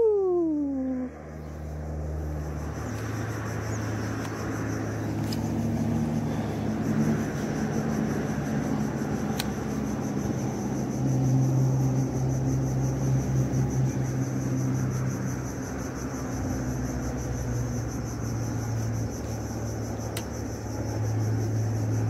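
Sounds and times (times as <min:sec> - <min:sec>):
insects buzzing: 0:00.0 - 0:22.0
low drone: 0:00.0 - 0:22.0.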